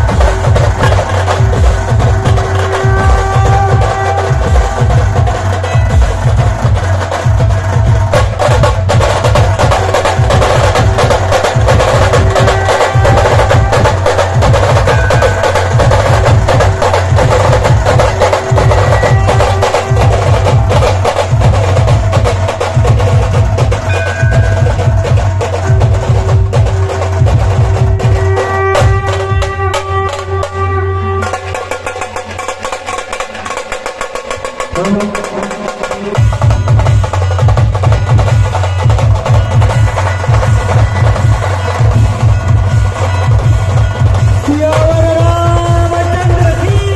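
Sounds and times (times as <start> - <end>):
barrel drums booming: 0.0 - 46.9
sharp snare drum strokes: 0.0 - 46.9.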